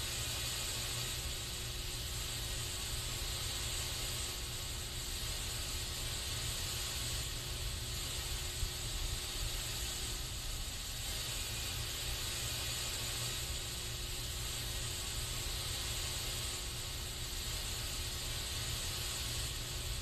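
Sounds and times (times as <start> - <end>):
aerosol spray hissing: 0.0 - 20.0.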